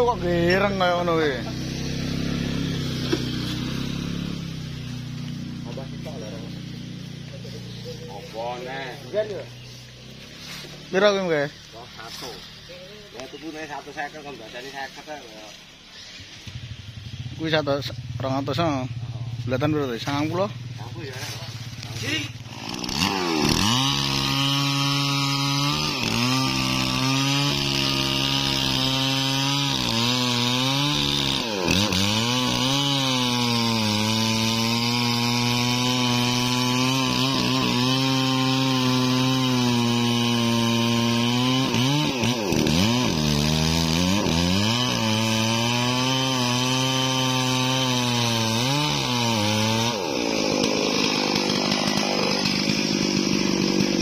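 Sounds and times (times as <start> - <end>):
chainsaw cutting into wood: 0.0 - 17.0, 20.2 - 54.0.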